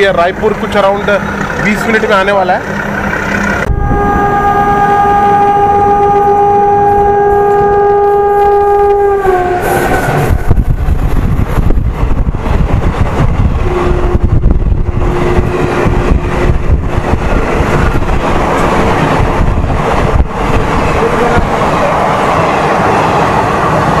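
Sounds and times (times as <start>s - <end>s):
passenger train wheels rumbling: 0.0s - 24.0s.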